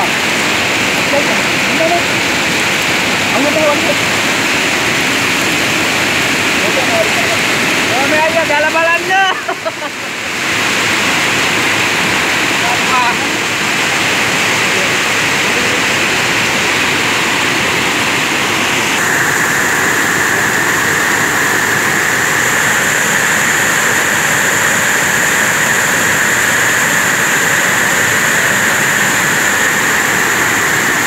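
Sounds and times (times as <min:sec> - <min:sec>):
floodwater rushing over weir: 0:00.0 - 0:31.0.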